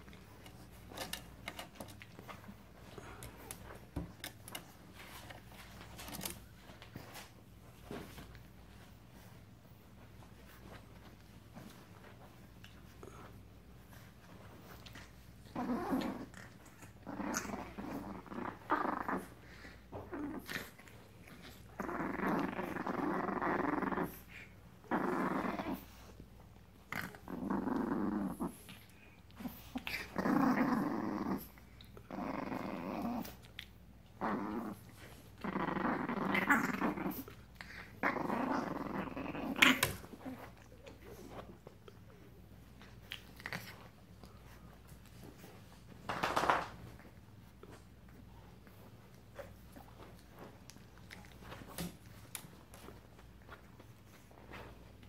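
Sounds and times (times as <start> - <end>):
puppies growling in play: 0.0 - 55.0.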